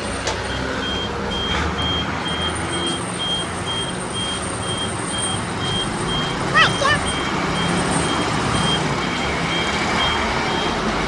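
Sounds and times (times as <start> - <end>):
truck engine running: 0.0 - 11.0
reversing alarm beeping: 0.2 - 11.0.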